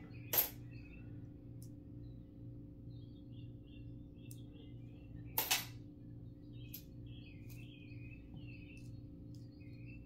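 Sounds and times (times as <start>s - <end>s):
birds chirping: 0.0s - 10.0s
steady low hum: 0.0s - 10.0s.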